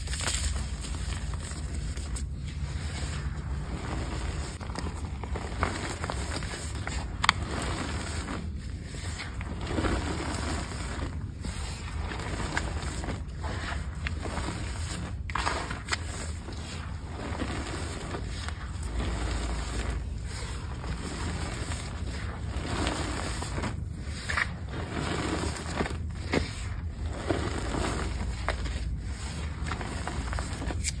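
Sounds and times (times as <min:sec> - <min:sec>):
hands squeezing powdery blocks: 0:00.0 - 0:31.0.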